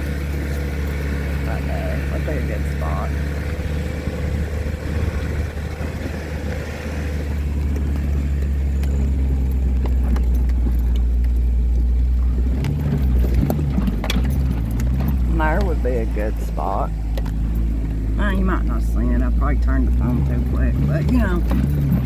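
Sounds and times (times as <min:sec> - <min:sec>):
knocks and rattles: 0:00.0 - 0:18.2, 0:19.8 - 0:22.0
vehicle engine and road noise: 0:00.0 - 0:22.0.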